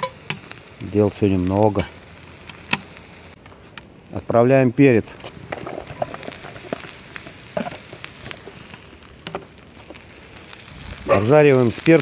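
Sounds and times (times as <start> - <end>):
sharp clicks and crackles: 0.0 - 4.3, 5.0 - 12.0
vegetables sizzling in oil: 0.0 - 12.0.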